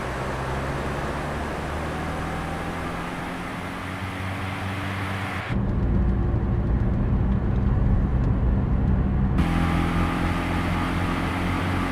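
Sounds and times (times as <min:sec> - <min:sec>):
car engine and exhaust: 0:00.0 - 0:11.9.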